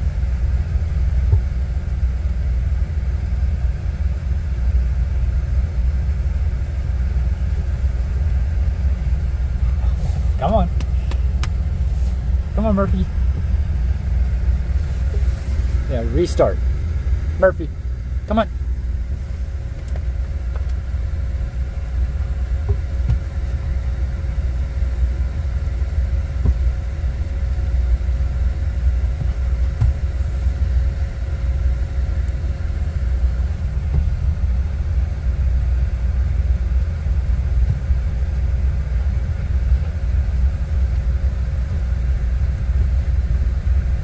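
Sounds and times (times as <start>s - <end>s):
faint constant hum: 0.0s - 44.0s
vehicle engine idling: 0.0s - 44.0s.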